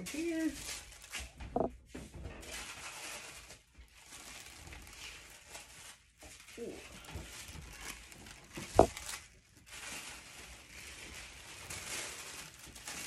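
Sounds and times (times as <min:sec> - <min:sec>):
tissue paper rustling: 0:00.0 - 0:01.4, 0:02.4 - 0:13.0.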